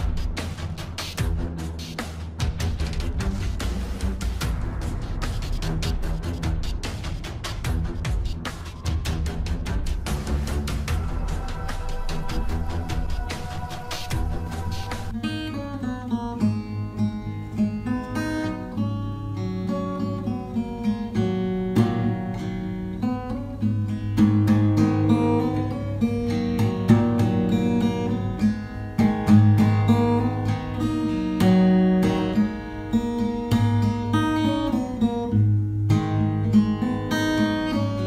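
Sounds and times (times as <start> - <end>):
acoustic guitar music: 0.0 - 38.0.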